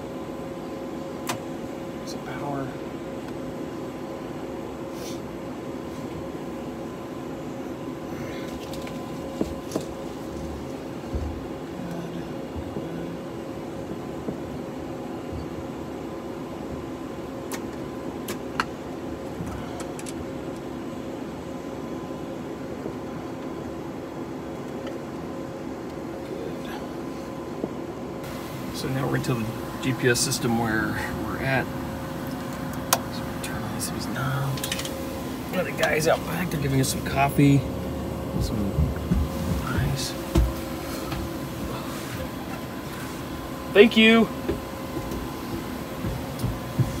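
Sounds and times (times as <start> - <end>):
cockpit hum and whine: 0.0 - 47.0.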